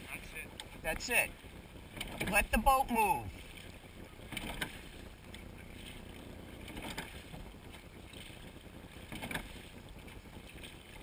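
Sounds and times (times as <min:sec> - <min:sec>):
wind and water noise: 0:00.0 - 0:11.0
oar strokes: 0:01.8 - 0:11.0.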